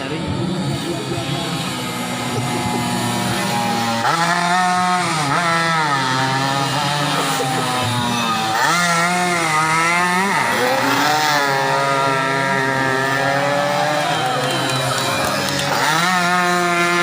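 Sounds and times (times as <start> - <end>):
racing motorcycle engines buzzing: 0.0 - 17.0.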